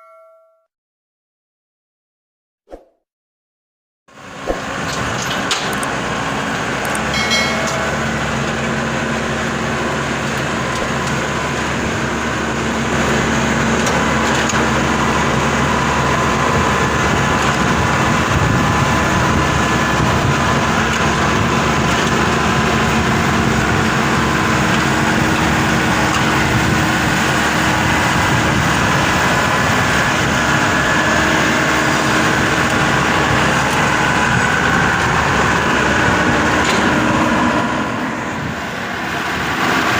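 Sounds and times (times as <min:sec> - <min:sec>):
diesel engine running: 0:04.1 - 0:39.9.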